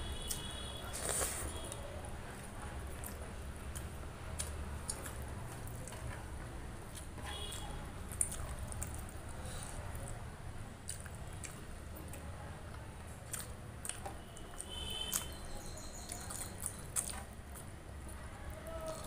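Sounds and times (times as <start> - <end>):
wet chewing and smacking: 0.2 - 19.0.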